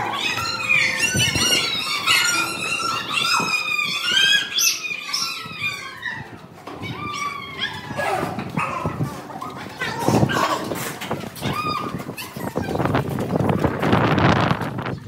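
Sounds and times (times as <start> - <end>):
children yelling and squealing: 0.0 - 13.4.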